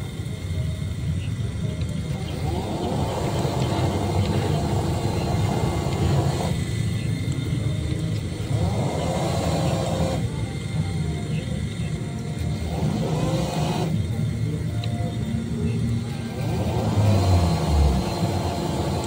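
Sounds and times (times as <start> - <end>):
model boat motor whine: 0.0 - 19.0
steady low rumble: 0.0 - 19.0.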